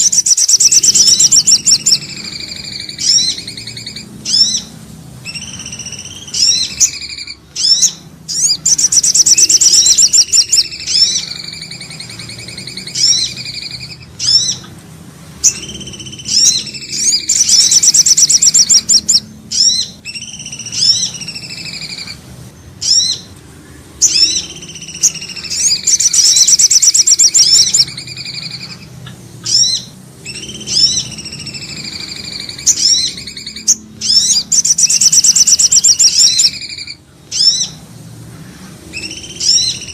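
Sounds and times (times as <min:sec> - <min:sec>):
bird sweeping chirps: 0:00.0 - 0:14.7, 0:15.3 - 0:23.3, 0:24.0 - 0:39.9
bird fast trill: 0:00.0 - 0:23.3, 0:24.0 - 0:38.0, 0:38.8 - 0:39.9.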